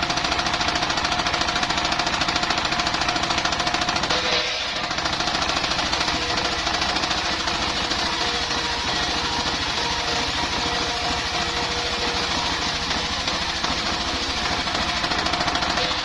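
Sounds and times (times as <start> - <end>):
sawmill engine knocking: 0.0 - 16.0.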